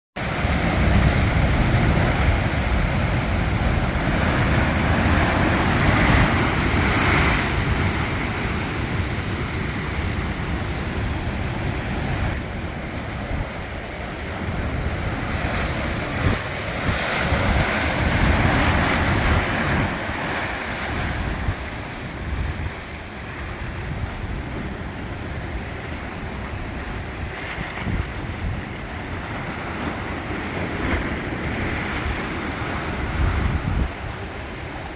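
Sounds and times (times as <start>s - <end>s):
ocean waves crashing ashore: 0.2s - 34.9s
wind buffeting microphone: 0.2s - 34.9s.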